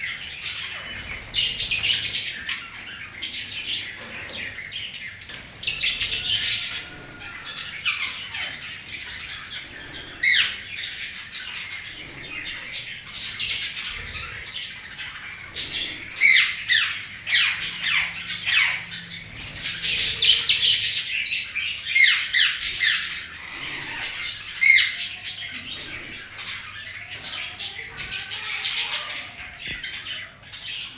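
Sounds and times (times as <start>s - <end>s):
budgies and parrot squawking: 0.0s - 30.9s.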